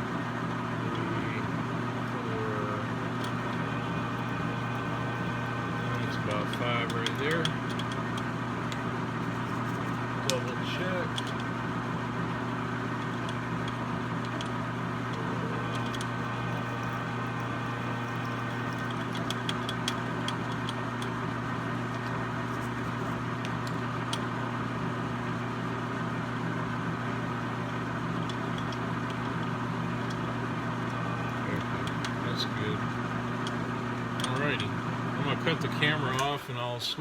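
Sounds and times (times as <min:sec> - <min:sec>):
electric motor hum: 0:00.0 - 0:36.4.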